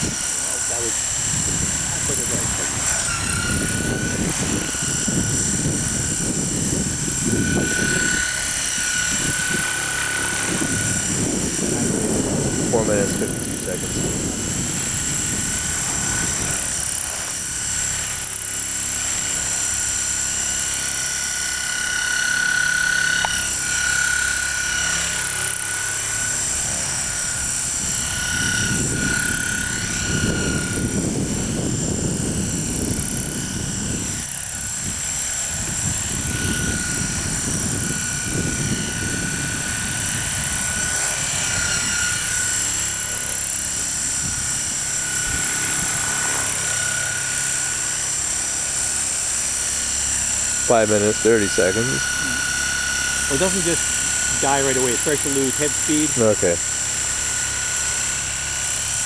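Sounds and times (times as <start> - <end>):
wind buffeting microphone: 0.0 - 19.8, 25.6 - 59.0
rc helicopter rotor whine: 0.0 - 59.0.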